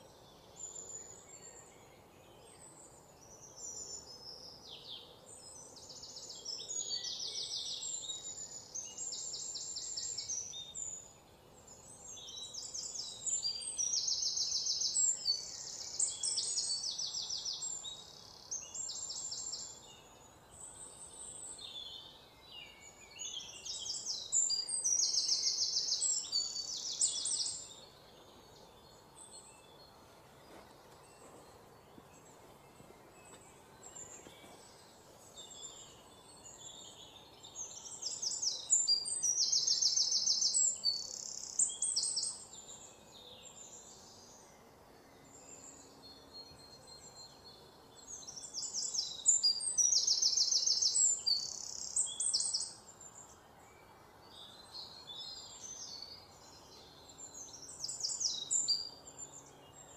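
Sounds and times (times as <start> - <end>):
birds singing trilled calls: 0.0 - 59.9.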